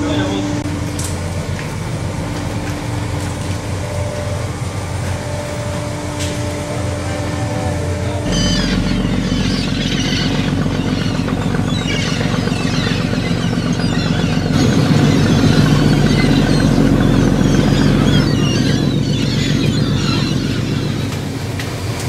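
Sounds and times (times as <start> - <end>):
boat engine running: 0.0 - 22.0
gulls calling: 3.4 - 22.0.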